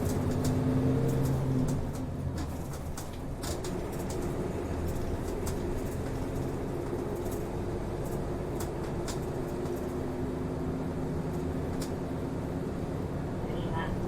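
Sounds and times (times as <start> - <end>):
bus engine and road drone: 0.0 - 14.0.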